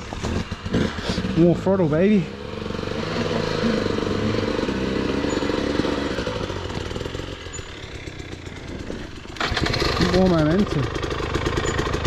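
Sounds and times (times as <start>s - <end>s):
dirt bike engine revving: 0.1s - 12.0s.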